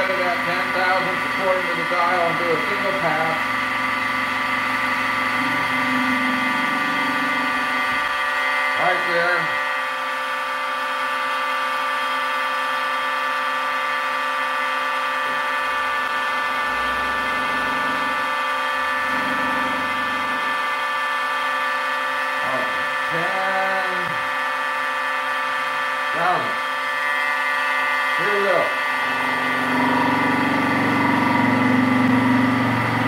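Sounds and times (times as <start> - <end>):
milling machine motor whine: 0.0 - 33.0.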